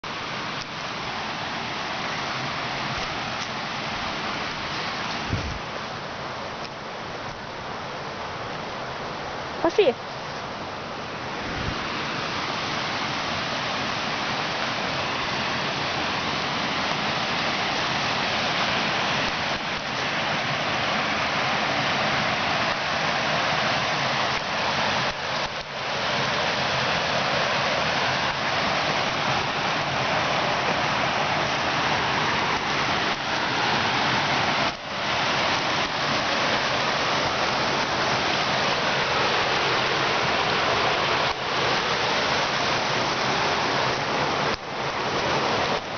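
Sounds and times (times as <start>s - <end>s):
stream splashing over stones: 0.0s - 45.9s.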